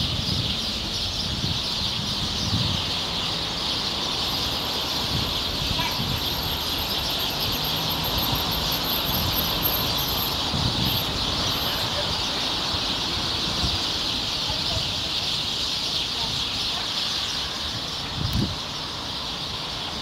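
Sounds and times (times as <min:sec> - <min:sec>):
flock of small birds chirping: 0:00.0 - 0:20.0.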